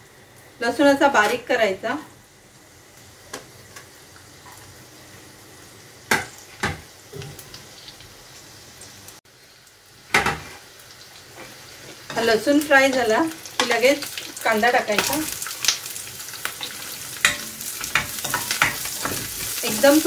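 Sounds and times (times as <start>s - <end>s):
garlic sizzling in oil: 0.0s - 20.0s.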